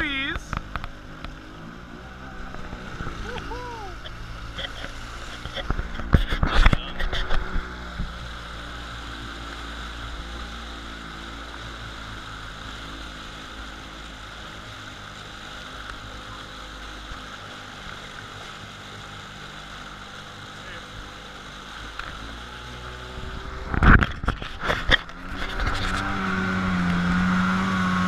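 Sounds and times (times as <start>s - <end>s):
jet ski engine running: 0.0s - 28.0s
water and wind noise: 0.0s - 28.0s.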